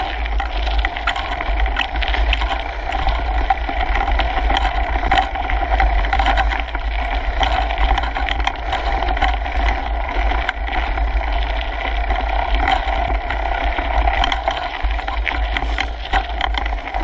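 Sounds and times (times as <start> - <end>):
bike clicks and rattles: 0.0 - 17.0
tyres on gravel trail: 0.0 - 17.0
wind rumble on microphone: 0.0 - 17.0.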